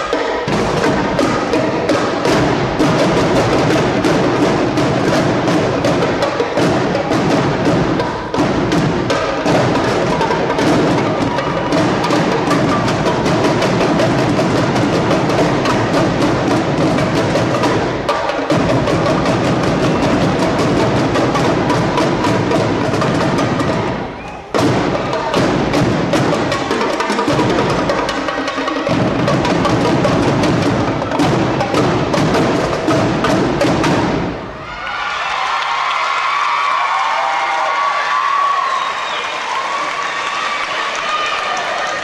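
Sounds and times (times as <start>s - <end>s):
drum line playing cadence: 0.0s - 36.2s.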